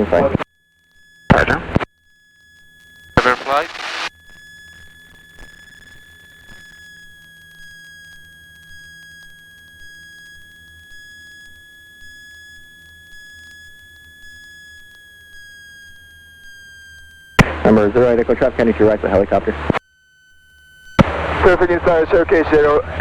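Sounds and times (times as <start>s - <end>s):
high electrical whine: 0.0s - 23.0s.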